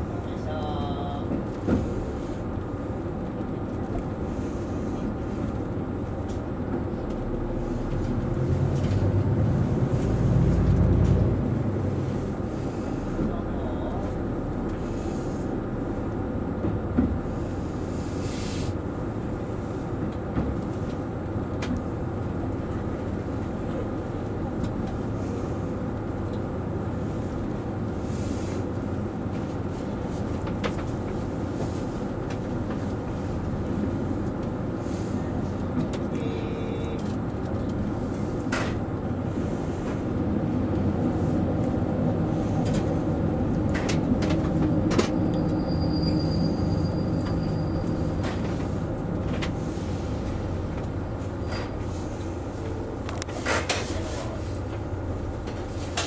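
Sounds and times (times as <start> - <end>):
railcar engine rumble: 0.0 - 56.0.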